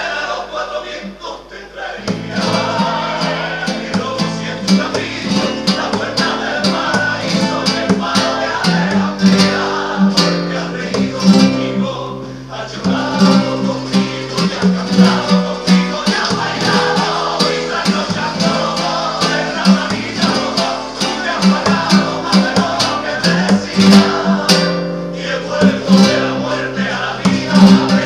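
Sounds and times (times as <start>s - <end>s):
classical guitar strumming: 2.0s - 28.0s.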